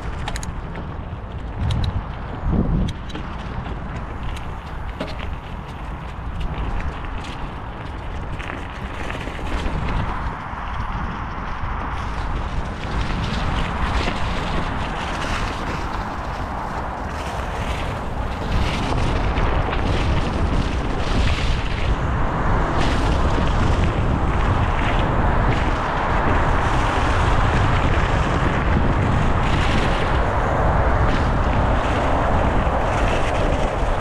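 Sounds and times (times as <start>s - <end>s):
bike tyres rumbling on dirt trail: 0.0s - 34.0s
wind buffeting microphone: 0.0s - 34.0s.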